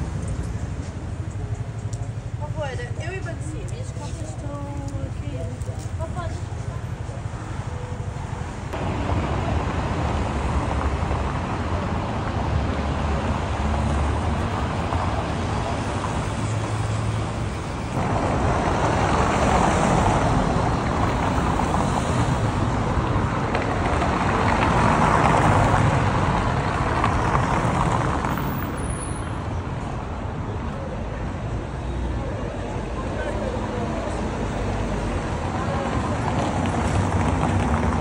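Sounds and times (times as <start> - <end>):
traffic: 0.0 - 38.0.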